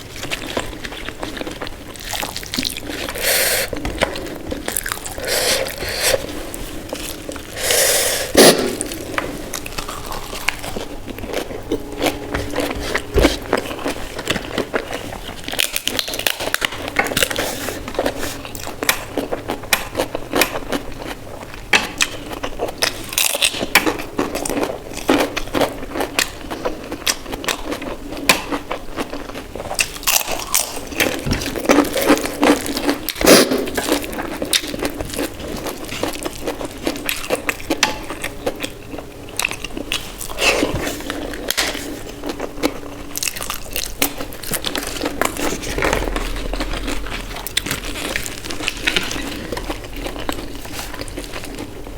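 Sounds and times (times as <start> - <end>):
chewing and smacking: 0.0 - 7.6, 8.8 - 51.9.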